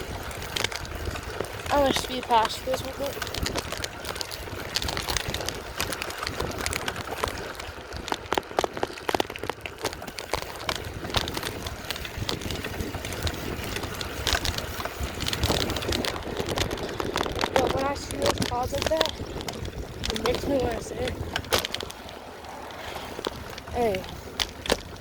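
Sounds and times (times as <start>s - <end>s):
wind rushing over microphone: 0.0s - 9.2s, 9.9s - 25.0s
bicycle clicks and rattles: 0.0s - 25.0s.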